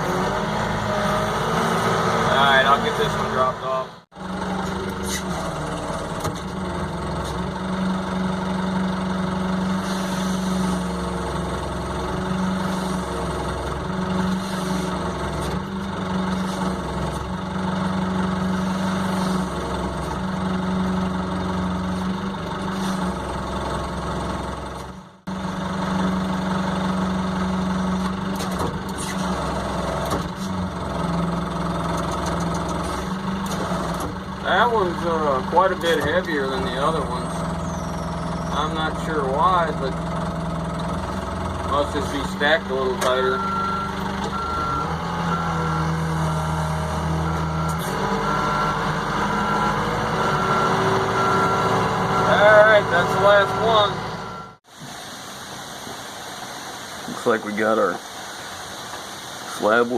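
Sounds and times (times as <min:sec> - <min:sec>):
forklift engine running: 0:00.0 - 0:59.9.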